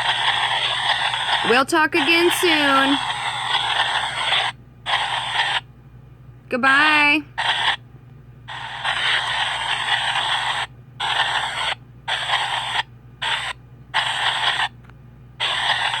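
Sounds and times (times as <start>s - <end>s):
radio static bursts: 0.0s - 5.7s, 6.9s - 7.8s, 8.5s - 14.7s, 15.4s - 16.0s.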